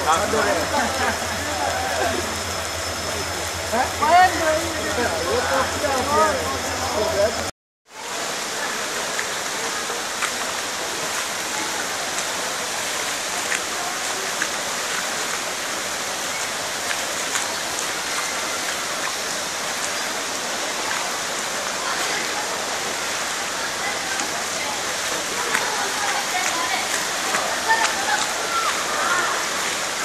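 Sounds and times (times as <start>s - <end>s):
heavy rain on water: 0.0s - 30.0s.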